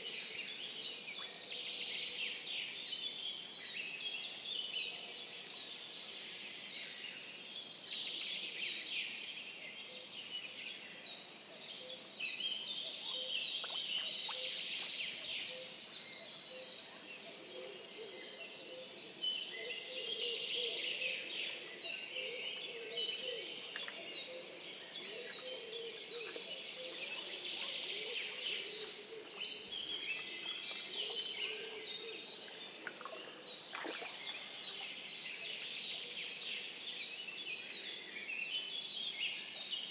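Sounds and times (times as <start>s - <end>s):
chorus of forest songbirds: 0.0s - 39.9s
nearby bird loud song: 0.0s - 39.9s.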